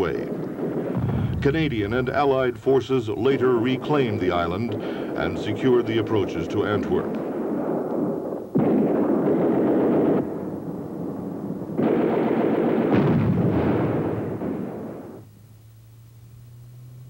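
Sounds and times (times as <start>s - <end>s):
dense gunfire: 0.0s - 15.2s
exploding shells: 0.0s - 15.2s.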